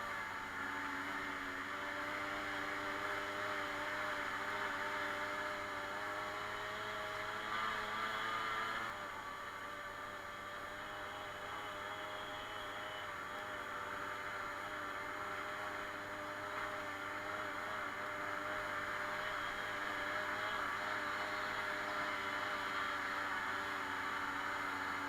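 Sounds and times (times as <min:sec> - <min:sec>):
moped engine running: 0:00.0 - 0:25.0.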